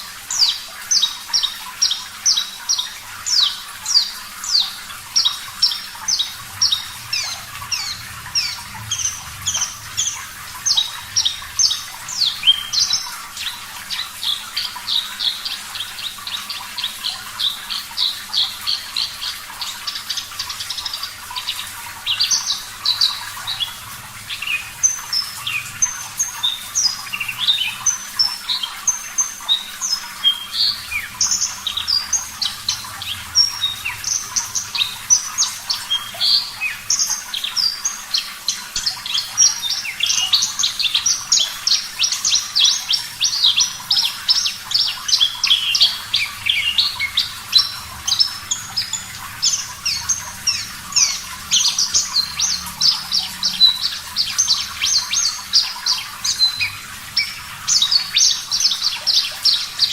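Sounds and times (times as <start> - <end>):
bird singing chirps and trills: 0.0 - 59.9
running water hiss: 0.0 - 59.9.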